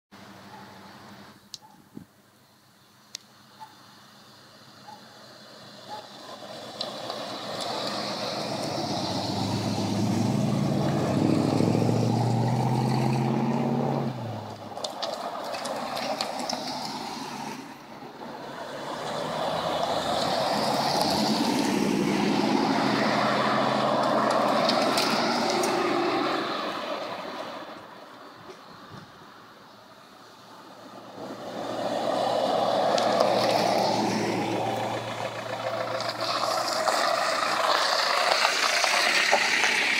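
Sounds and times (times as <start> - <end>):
cars driving past: 3.4 - 39.9.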